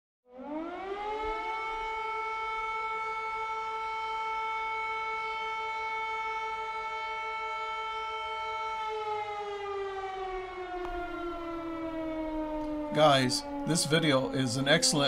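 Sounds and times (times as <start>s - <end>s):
air-raid siren winding up: 0.4s - 15.0s.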